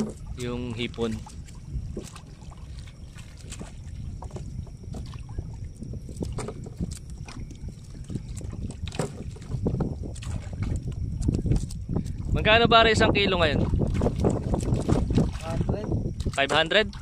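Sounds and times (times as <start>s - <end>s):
water splashing and dripping: 0.0s - 12.3s, 13.4s - 17.0s
wind rumble on microphone: 0.0s - 17.0s.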